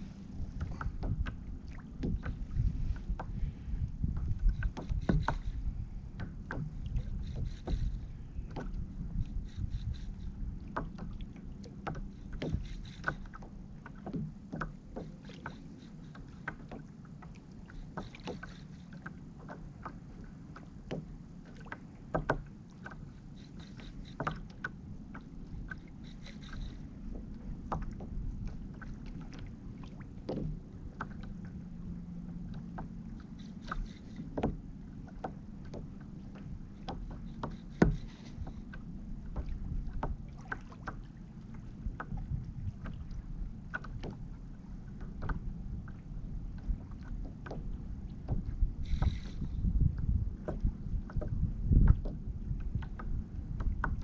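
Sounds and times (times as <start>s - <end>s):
waves lapping against kayak hull: 0.0s - 54.0s
light knocks and clicks: 0.5s - 3.4s, 4.0s - 31.6s, 32.4s - 54.0s.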